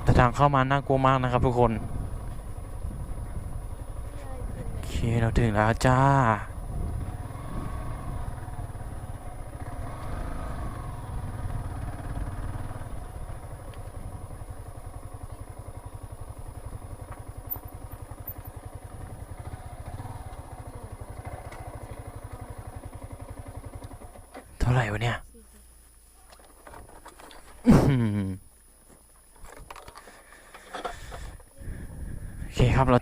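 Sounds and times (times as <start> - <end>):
motorcycle engine idling: 0.0 - 26.4, 27.9 - 33.0.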